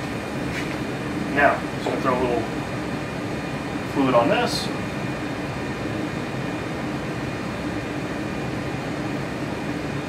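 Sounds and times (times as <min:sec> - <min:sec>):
room tone hum and hiss: 0:00.0 - 0:10.0.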